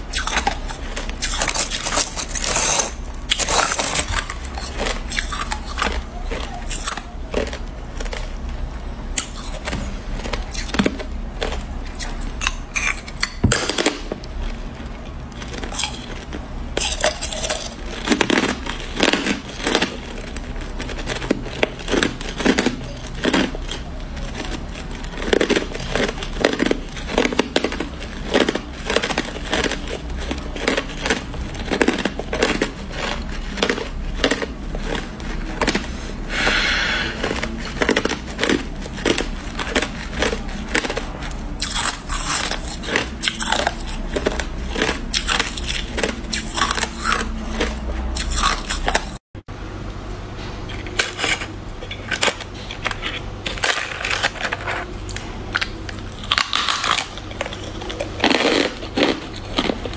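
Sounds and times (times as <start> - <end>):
ice crunched between teeth: 0.0 - 49.2, 50.7 - 59.9.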